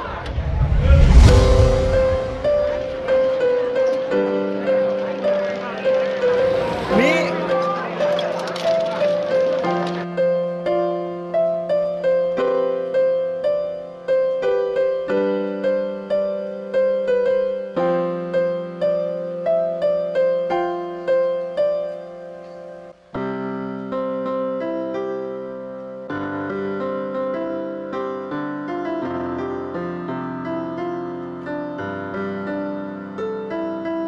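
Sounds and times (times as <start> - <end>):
soft piano music: 0.8 - 34.0.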